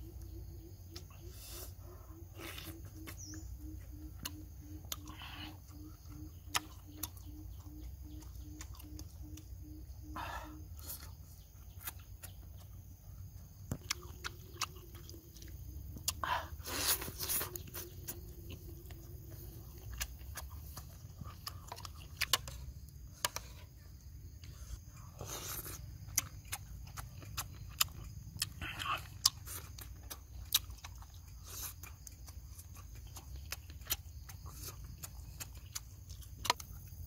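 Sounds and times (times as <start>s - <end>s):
wet chewing: 0.2s - 37.0s.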